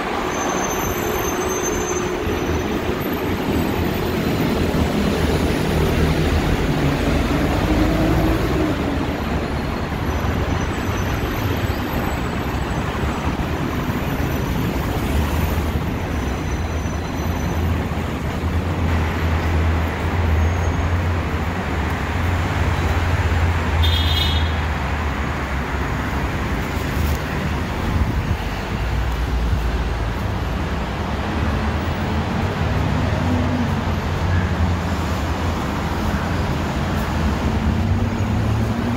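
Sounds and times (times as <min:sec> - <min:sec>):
city traffic low rumble: 0:00.0 - 0:38.9.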